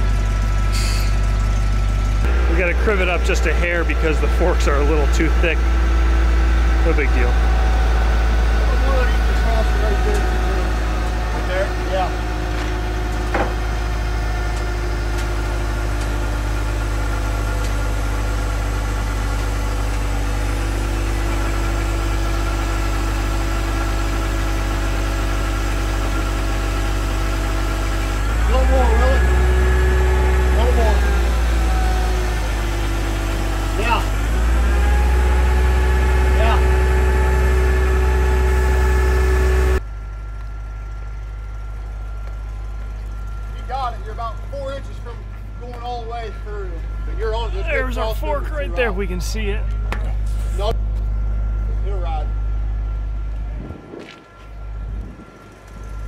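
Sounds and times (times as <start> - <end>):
forklift engine idling: 0.0 - 56.0.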